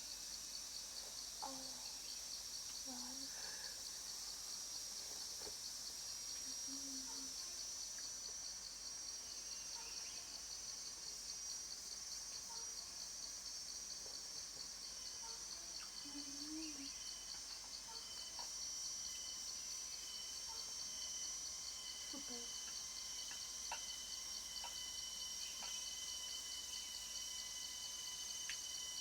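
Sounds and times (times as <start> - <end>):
cicadas chorus: 0.0 - 29.0.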